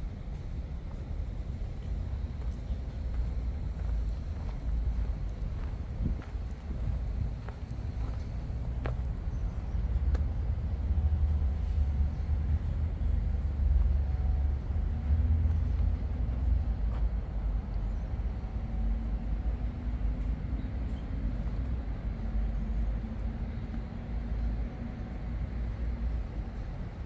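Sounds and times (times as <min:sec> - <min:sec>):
passing vehicle engine hum: 0:00.0 - 0:26.5
low rumble of road traffic: 0:00.0 - 0:27.0.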